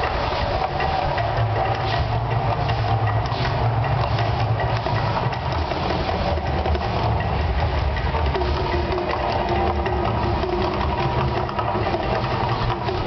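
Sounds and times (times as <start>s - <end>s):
gas flames burning: 0.0s - 13.0s.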